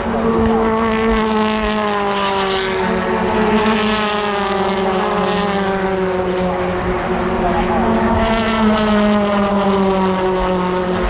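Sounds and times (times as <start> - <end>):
race cars passing at speed: 0.0 - 11.0.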